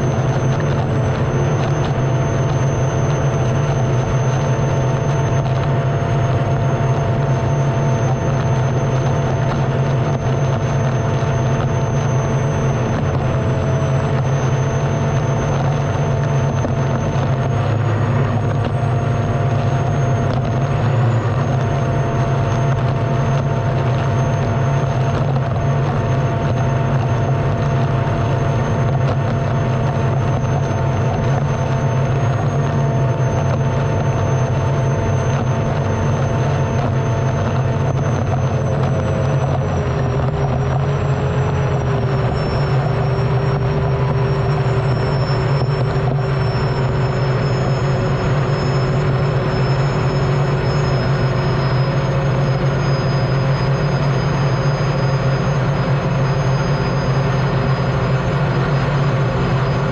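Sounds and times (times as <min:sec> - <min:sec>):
turbine engine whining: 0:00.0 - 0:59.9.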